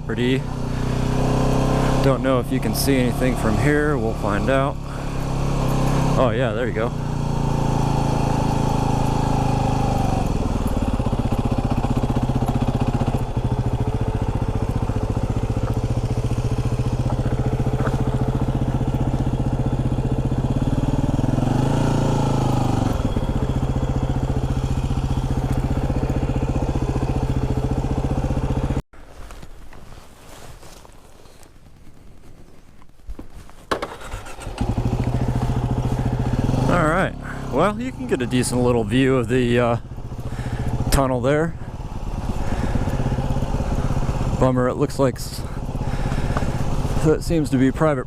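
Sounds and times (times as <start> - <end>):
motorcycle engine idling: 0.0 - 28.8, 33.7 - 48.0.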